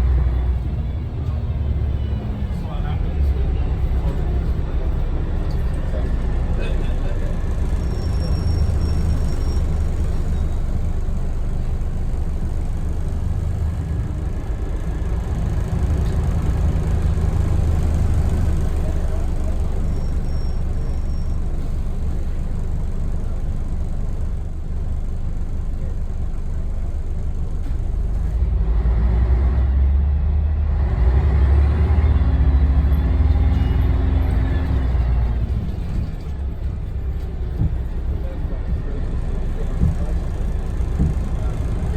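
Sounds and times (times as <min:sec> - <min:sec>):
diesel bus engine rumbling: 0:00.0 - 0:41.9.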